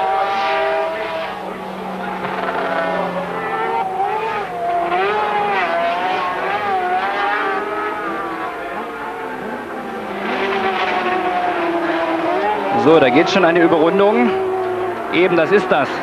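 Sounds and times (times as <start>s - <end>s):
racing engines running hard: 0.0s - 16.0s.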